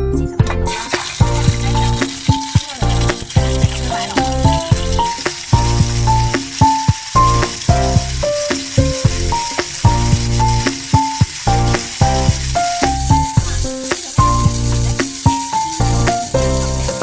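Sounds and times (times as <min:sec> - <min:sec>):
background music: 0:00.0 - 0:17.0
chicken wings sizzling in a pan: 0:00.7 - 0:17.0.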